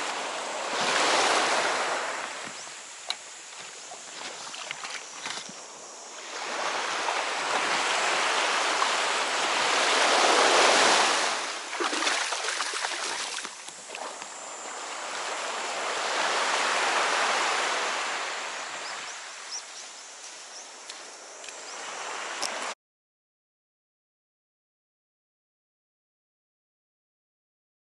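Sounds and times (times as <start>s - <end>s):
sea waves washing in: 0.0s - 22.8s.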